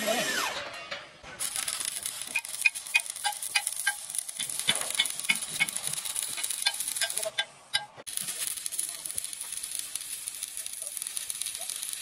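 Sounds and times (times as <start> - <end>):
welding arc sizzling and crackling: 1.4 - 12.0.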